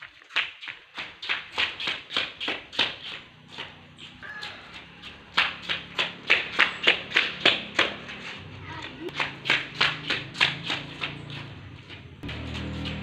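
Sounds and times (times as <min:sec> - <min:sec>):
footsteps on concrete: 0:00.0 - 0:13.0.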